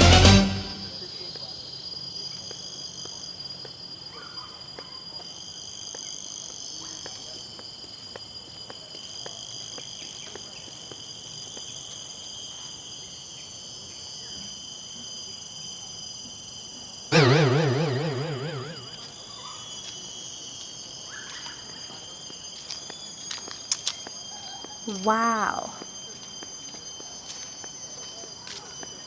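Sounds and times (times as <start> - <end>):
forest insects chirring: 0.8 - 29.0.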